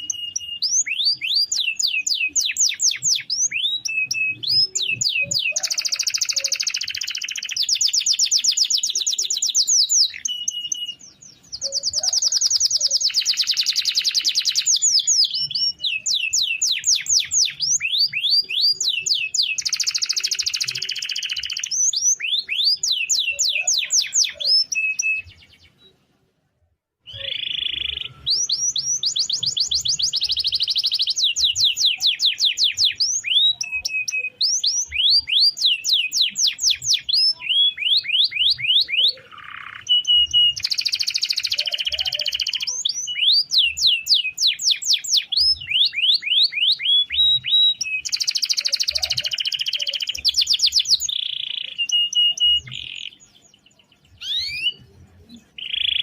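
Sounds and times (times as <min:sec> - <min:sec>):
canary singing: 0:00.0 - 0:26.2, 0:27.0 - 0:56.0.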